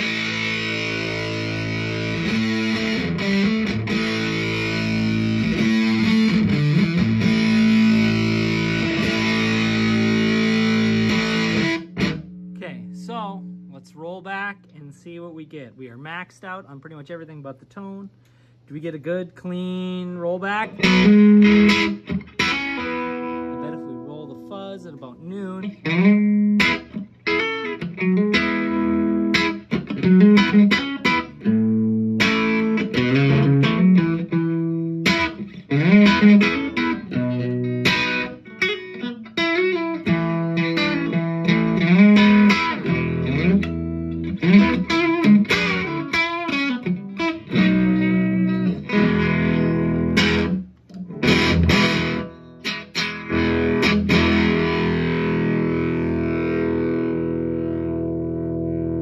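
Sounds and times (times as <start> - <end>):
fuzz electric guitar playing: 0.0 - 15.5, 19.6 - 59.0.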